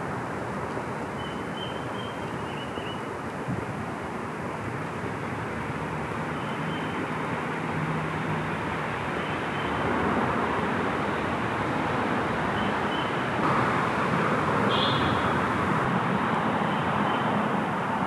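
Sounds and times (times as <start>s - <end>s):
distant road traffic roar: 0.0s - 18.0s.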